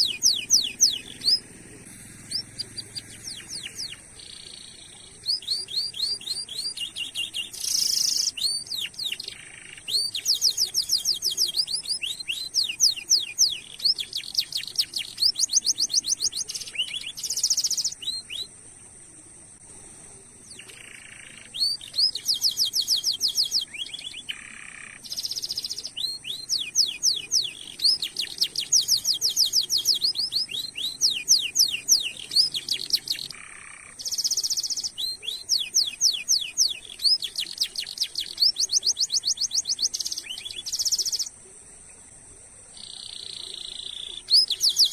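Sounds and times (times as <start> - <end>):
canary singing: 0.0 - 18.6, 20.5 - 41.4, 42.8 - 44.9.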